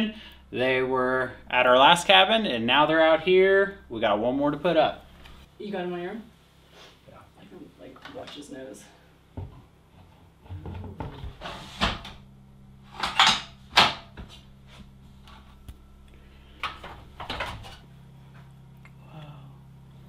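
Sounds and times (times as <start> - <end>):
faint low steady hum: 0.0 - 20.0.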